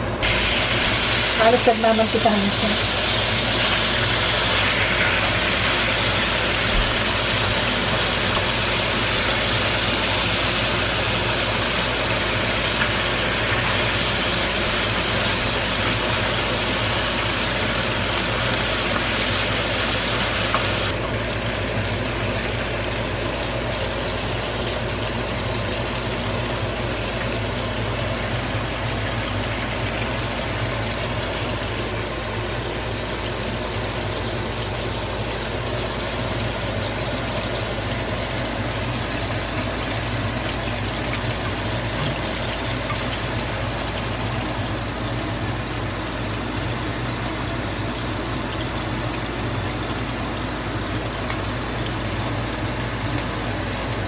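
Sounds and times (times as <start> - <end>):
chicken sizzling in a skillet: 0.2 - 54.0.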